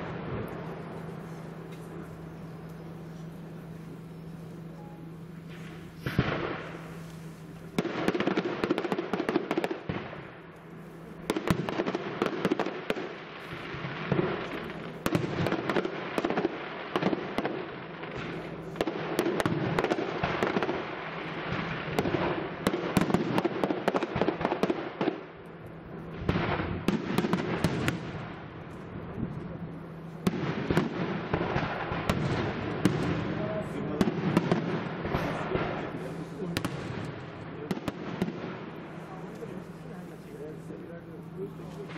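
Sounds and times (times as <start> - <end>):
fireworks bursting: 0.0 - 41.9.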